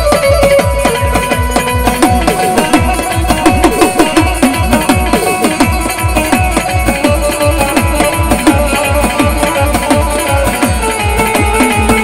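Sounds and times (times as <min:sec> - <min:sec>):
drum beating with pitch slides: 0:00.0 - 0:12.0
harmonium melody: 0:00.0 - 0:12.0.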